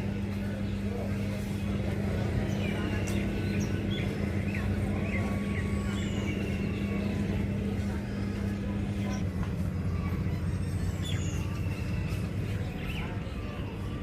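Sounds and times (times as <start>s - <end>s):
birds chirping: 0.0s - 14.0s
droning hum: 0.0s - 14.0s
low motor rumble: 0.0s - 14.0s.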